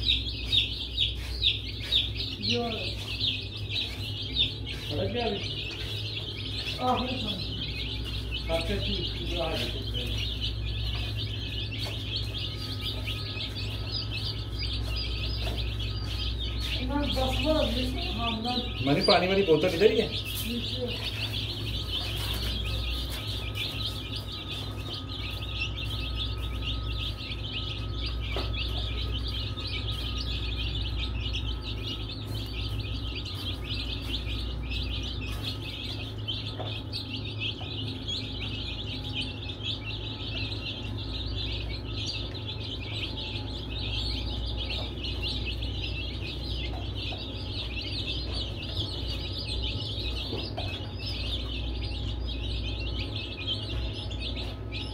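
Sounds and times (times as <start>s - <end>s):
baby chicks peeping: 0.0s - 54.9s
steady low hum: 0.0s - 54.9s.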